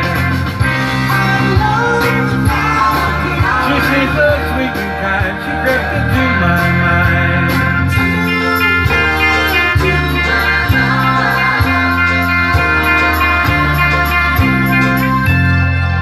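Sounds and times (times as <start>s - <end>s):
man singing: 0.0s - 14.0s
pop-rock backing track with guitar: 0.0s - 16.0s.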